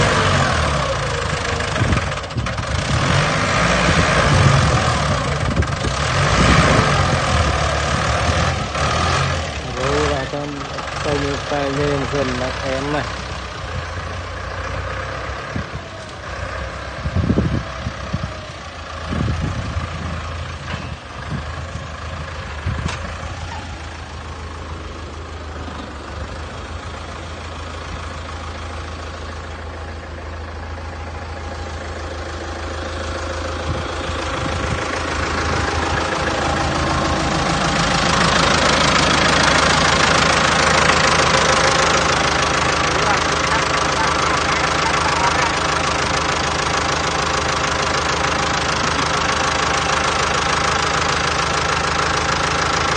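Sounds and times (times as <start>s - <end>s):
heavy machine engine running: 0.0s - 52.9s.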